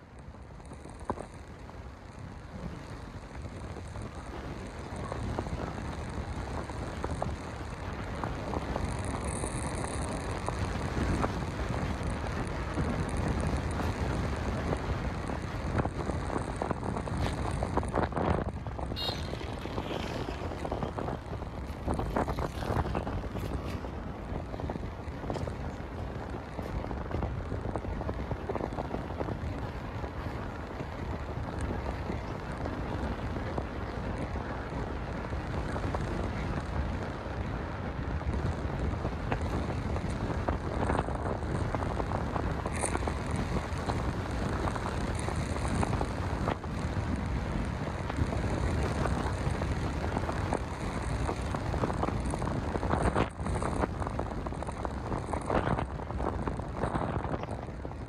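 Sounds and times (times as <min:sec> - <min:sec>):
moving vehicle rumble: 0:00.0 - 0:58.0
wind buffeting microphone: 0:00.0 - 0:58.0.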